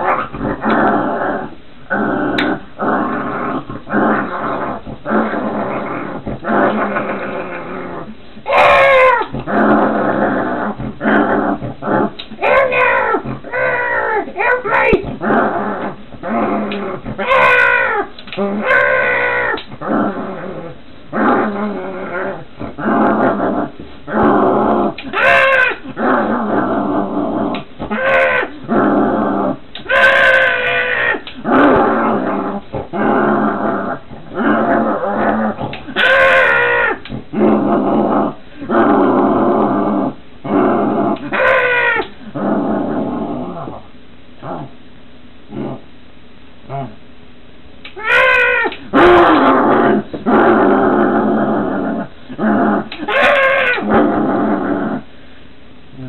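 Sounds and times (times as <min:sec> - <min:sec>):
dog growling and barking: 0:00.0 - 0:44.8, 0:47.9 - 0:55.1.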